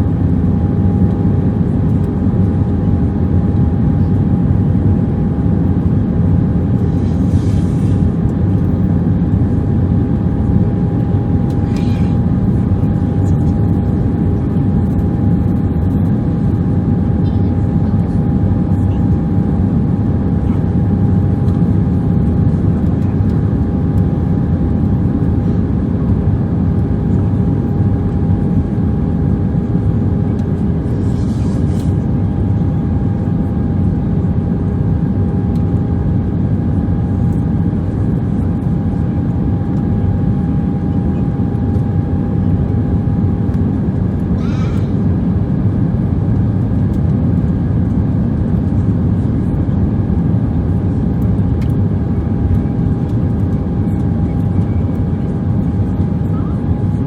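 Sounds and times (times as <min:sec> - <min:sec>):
airliner cabin rumble: 0:00.0 - 0:57.0
steady hum: 0:00.0 - 0:57.0.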